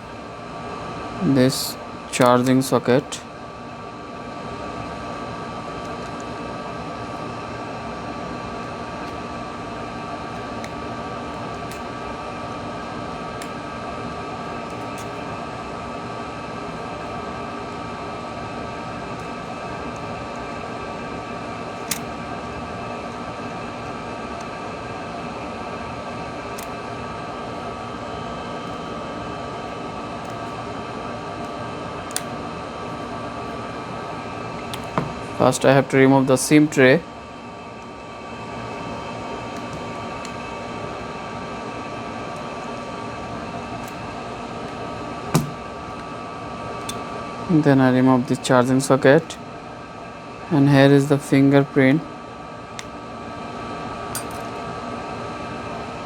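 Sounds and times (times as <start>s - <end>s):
ventilation fan hum: 0.0s - 56.0s.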